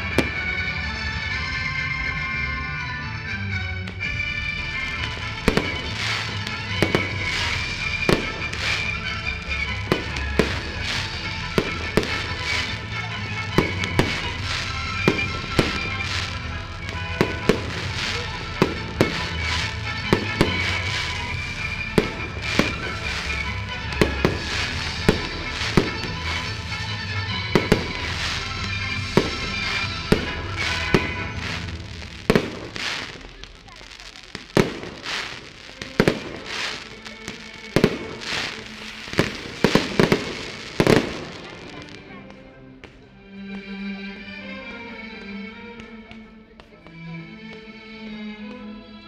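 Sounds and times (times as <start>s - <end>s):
fireworks bangs: 0.0s - 2.2s, 3.8s - 43.1s
music playing: 0.0s - 49.0s.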